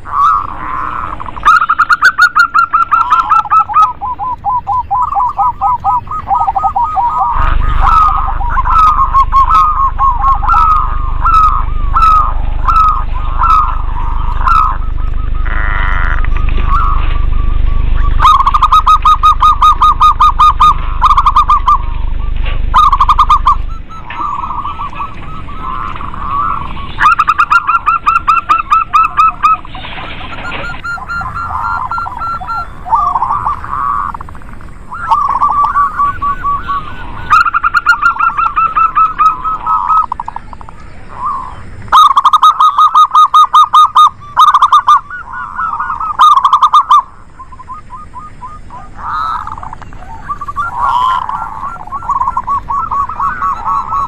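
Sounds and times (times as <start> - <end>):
doves cooing in staccato trills: 0.0 - 54.0.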